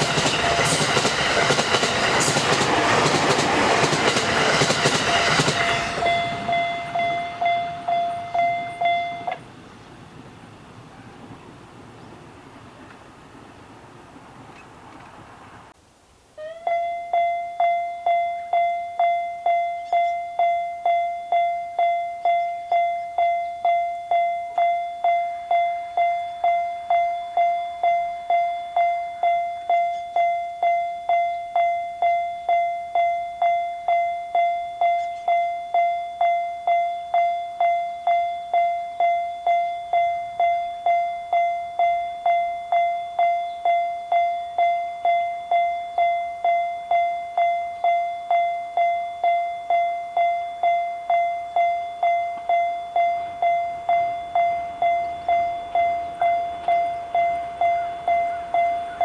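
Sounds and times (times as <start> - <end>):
level crossing warning bell: 0.0 - 13.0, 16.4 - 59.0.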